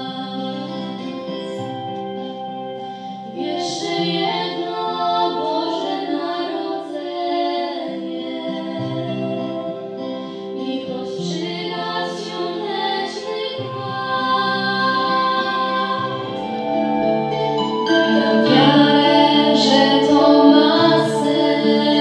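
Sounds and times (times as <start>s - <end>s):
women singing a duet: 0.0s - 2.4s, 3.0s - 22.0s
low instrumental accompaniment: 0.0s - 22.0s.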